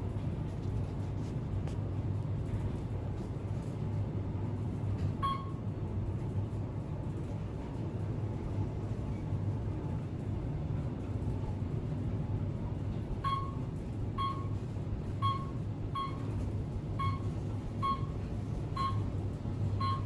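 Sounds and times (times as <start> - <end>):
elevator hum: 1.9 - 20.0.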